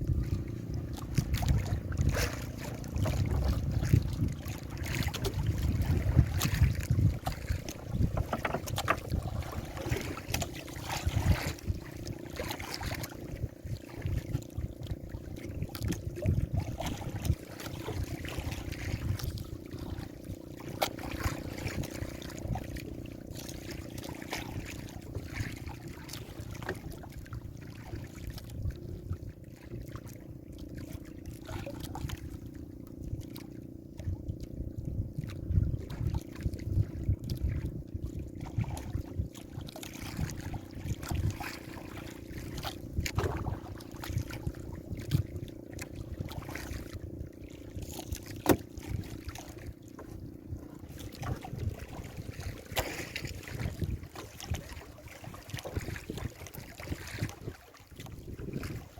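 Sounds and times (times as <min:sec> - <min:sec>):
water splashing against hull: 0:00.0 - 0:58.9
wind on microphone: 0:00.0 - 0:58.9.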